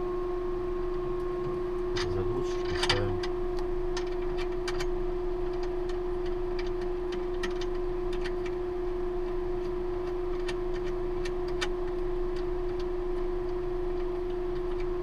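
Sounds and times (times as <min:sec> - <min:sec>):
ventilation fans humming: 0:00.0 - 0:15.0.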